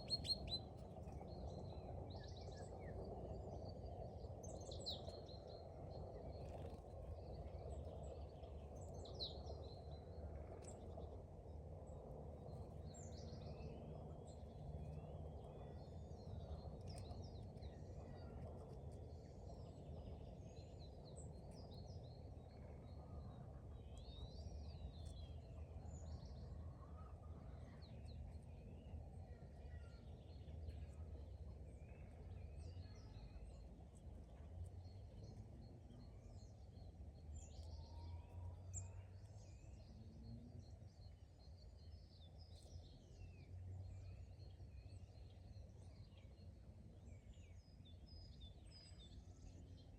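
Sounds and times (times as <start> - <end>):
faint songbirds chirping: 0.0 - 49.9
low background rumble: 0.0 - 49.9.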